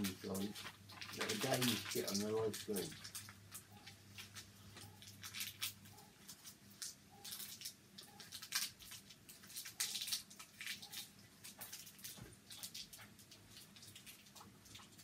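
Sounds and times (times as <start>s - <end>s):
plastic wrappers crinkling: 0.0s - 15.0s.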